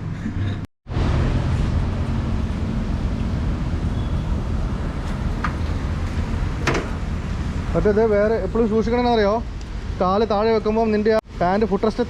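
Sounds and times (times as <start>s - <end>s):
vehicle engine idling: 0.9s - 10.8s.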